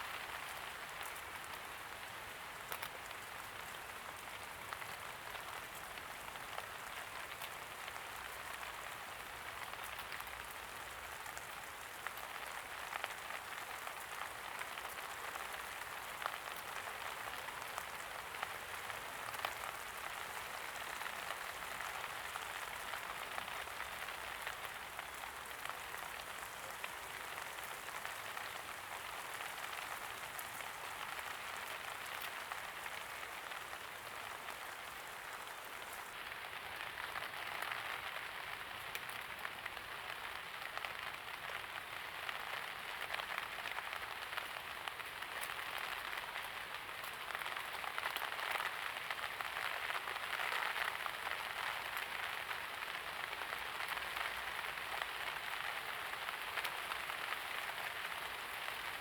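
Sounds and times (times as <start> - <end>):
light rain pattering: 0.0 - 59.0.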